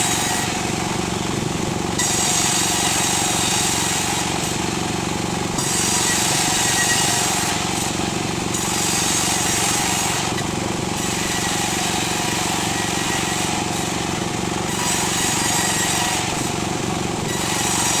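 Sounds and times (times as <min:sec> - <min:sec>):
circular saw cutting wood: 0:00.0 - 0:01.2, 0:01.9 - 0:04.9, 0:05.5 - 0:18.0.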